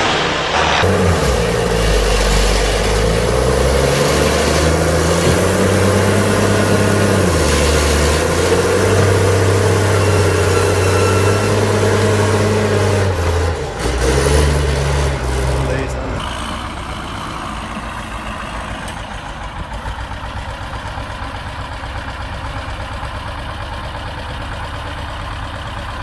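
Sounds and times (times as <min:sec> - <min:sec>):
heavy vehicle engine under load: 0:00.0 - 0:26.0.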